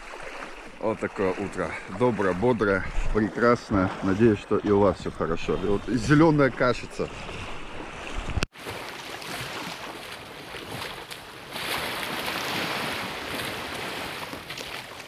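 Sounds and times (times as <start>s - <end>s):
feet splashing through waves: 0.0s - 4.7s, 5.5s - 15.0s
shallow water washing at shore: 0.0s - 15.0s.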